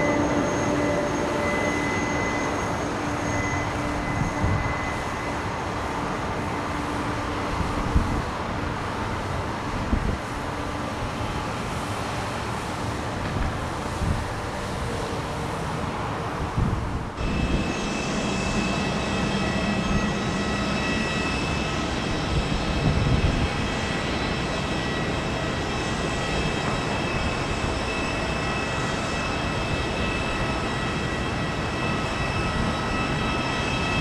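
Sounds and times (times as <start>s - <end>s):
high-pitched engine whine: 0.0s - 34.0s
jet engines rushing: 0.0s - 34.0s.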